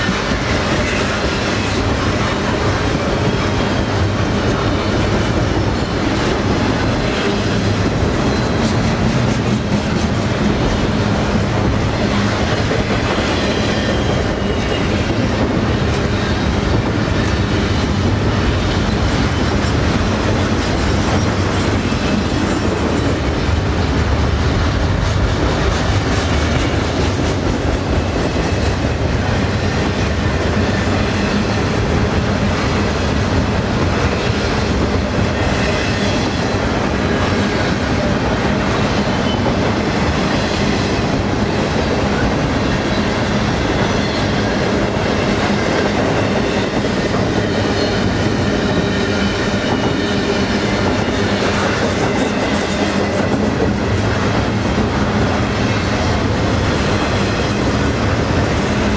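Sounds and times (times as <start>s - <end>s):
steel wheels rolling on rail: 0.0s - 58.9s.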